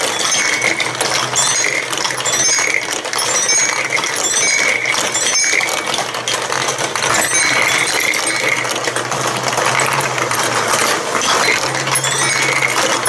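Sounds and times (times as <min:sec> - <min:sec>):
plastic balls rattling in marble run: 0:00.0 - 0:13.0.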